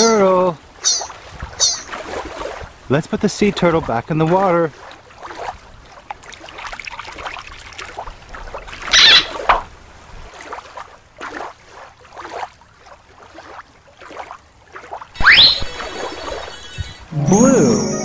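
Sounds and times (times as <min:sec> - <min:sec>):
water splashing: 0:00.0 - 0:02.9, 0:03.6 - 0:16.7.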